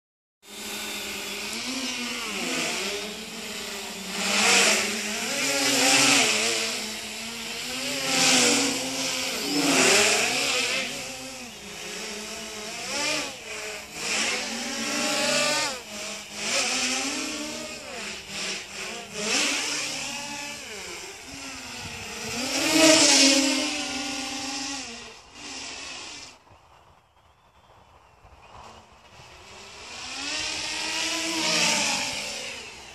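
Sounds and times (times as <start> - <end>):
drone motors whining: 0.4 - 32.9.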